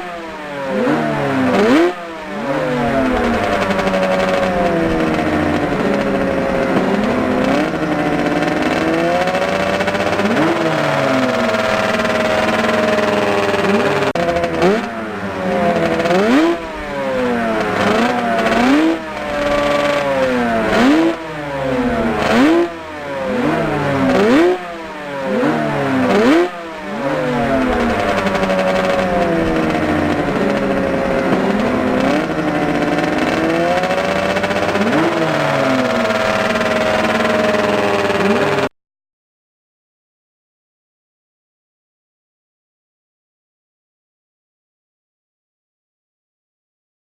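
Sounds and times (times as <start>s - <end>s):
motorcycle engine revving: 0.0s - 38.8s.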